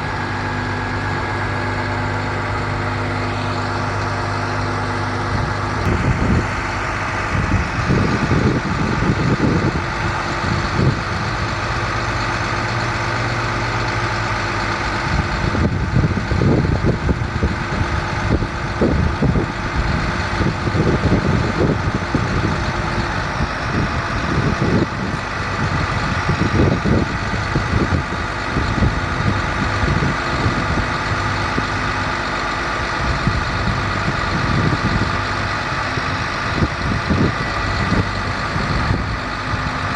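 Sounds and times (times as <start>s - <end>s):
diesel truck engine idling: 0.0s - 39.9s
low rumbles: 0.0s - 39.9s.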